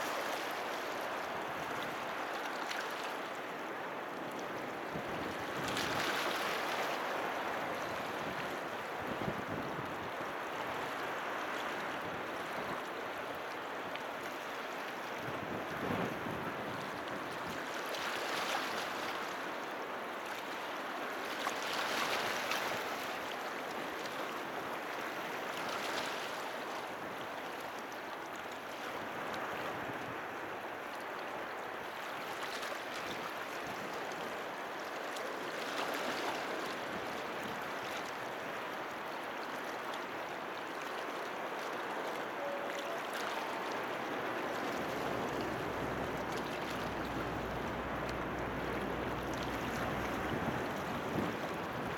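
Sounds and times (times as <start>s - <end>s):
small waves washing on shore: 0.0s - 51.9s.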